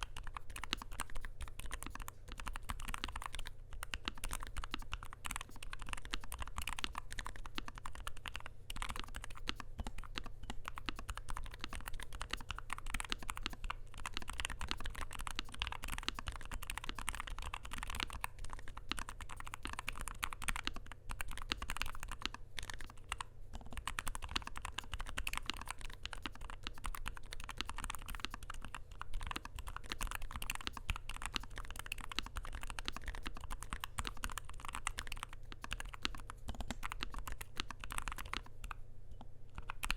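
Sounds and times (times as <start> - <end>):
fast typing on mechanical keyboard: 0.0 - 38.8, 39.6 - 39.9.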